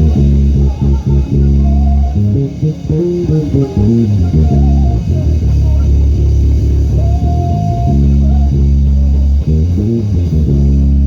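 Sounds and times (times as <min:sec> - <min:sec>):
bass guitar plucked notes: 0:00.0 - 0:11.0.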